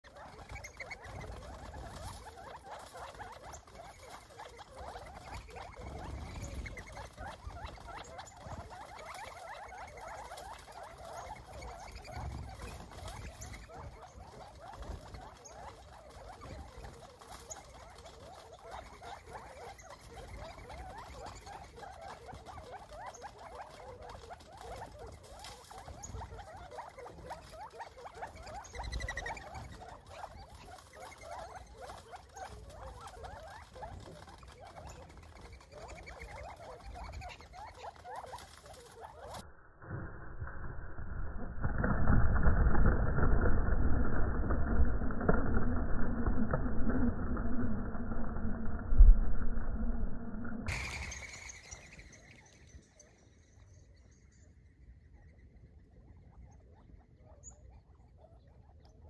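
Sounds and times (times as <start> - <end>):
flock of birds chattering: 0.0 - 39.4, 50.7 - 59.0.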